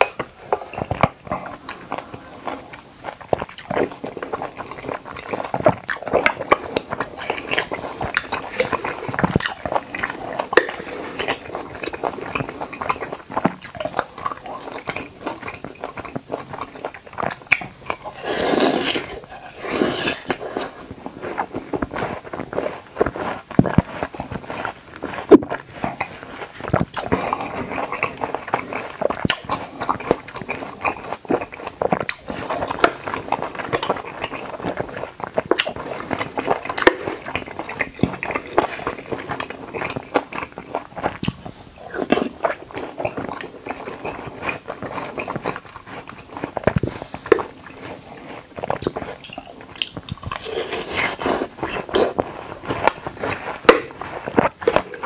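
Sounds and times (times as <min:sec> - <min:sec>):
wet chewing and squishing: 0:00.0 - 0:55.0.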